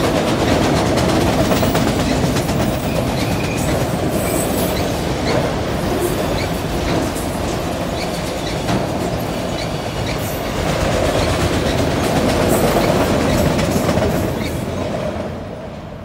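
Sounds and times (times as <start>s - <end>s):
freight cars rumbling and rattling: 0.0s - 16.0s.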